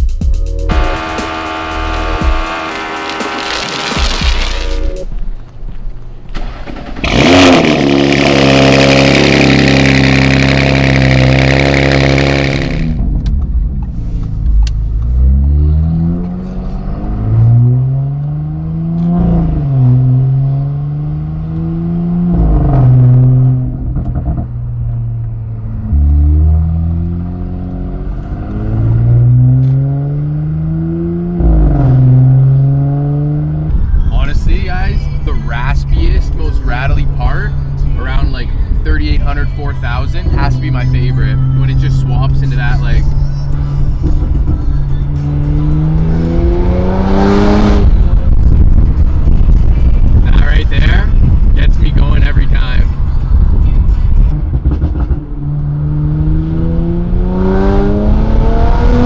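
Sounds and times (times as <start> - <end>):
car engine accelerating through gears: 0.6 - 5.1, 6.6 - 59.0.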